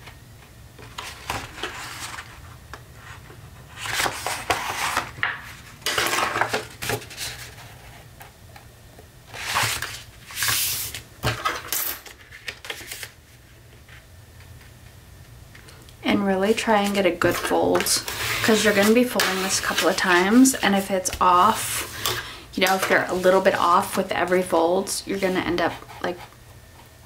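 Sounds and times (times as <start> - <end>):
cardstock rustling as folded: 0.8 - 8.3, 9.3 - 14.8, 16.3 - 26.2.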